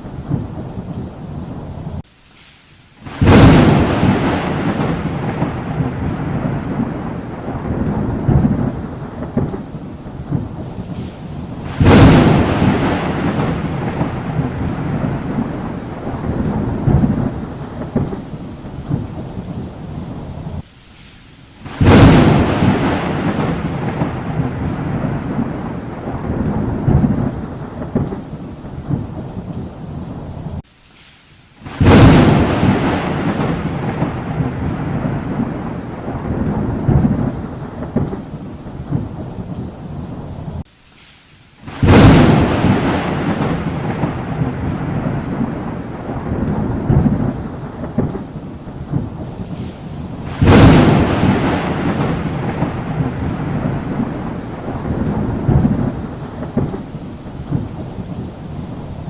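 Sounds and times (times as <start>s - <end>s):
thunderclaps rolling: 0.0s - 2.0s, 3.0s - 20.6s, 21.6s - 30.6s, 31.6s - 40.6s, 41.7s - 59.0s
steady rain: 0.0s - 59.0s.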